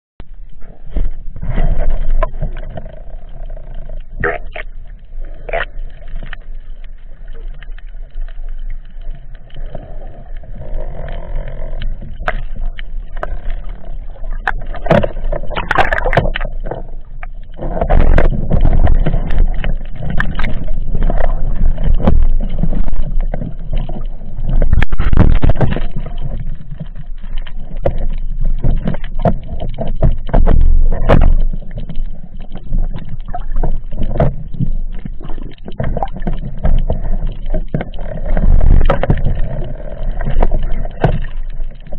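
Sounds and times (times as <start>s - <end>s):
underwater clicks and knocks: 0.2s - 41.9s
underwater rumble of moving water: 0.2s - 41.9s.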